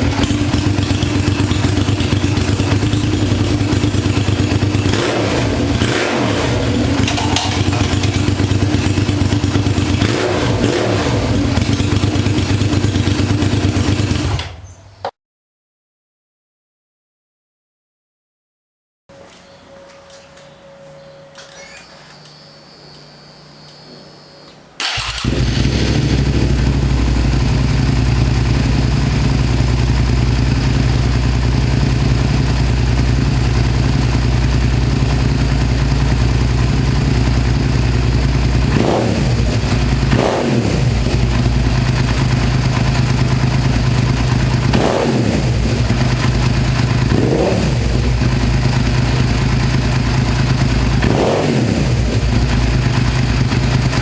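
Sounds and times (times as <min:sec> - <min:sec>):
motorcycle engine starting and idling: 0:00.0 - 0:15.1, 0:21.2 - 0:22.5, 0:24.8 - 0:54.0.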